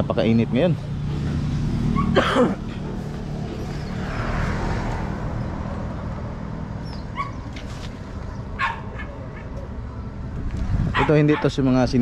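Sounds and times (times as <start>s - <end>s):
traffic rumble: 0.0s - 12.0s
vehicle passing: 0.0s - 12.0s.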